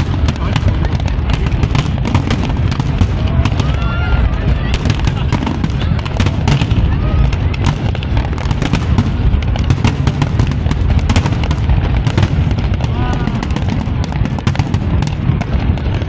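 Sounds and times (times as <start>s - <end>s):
fireworks bangs and crackles: 0.0s - 16.0s
indistinct voices of onlookers: 0.0s - 16.0s.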